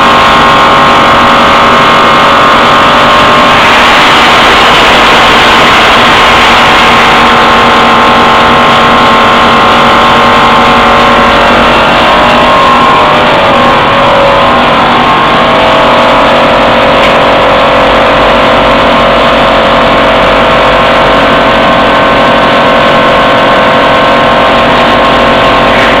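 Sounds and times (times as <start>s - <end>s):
machinery din: 0.0s - 26.0s
whining motor tones: 0.0s - 26.0s.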